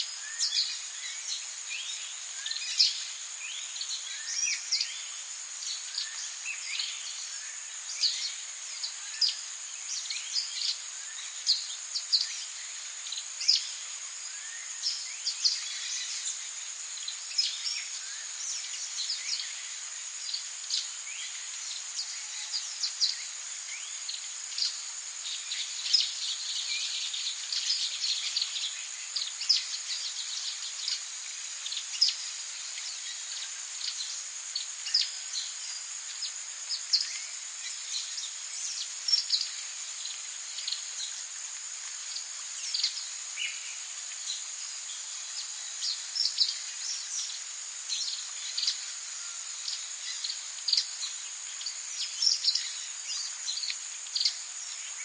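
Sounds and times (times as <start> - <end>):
high insect drone: 0.0 - 55.0
soft hiss: 0.0 - 55.0.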